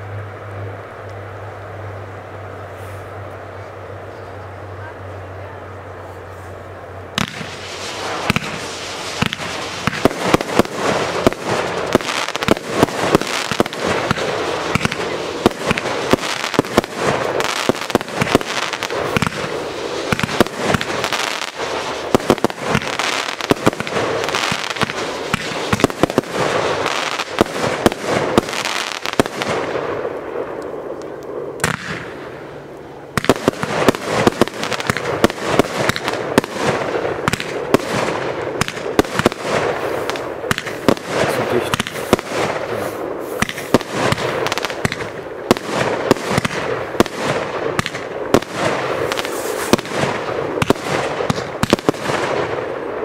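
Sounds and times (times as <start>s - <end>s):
fireworks bursting with crackle: 0.0s - 53.0s.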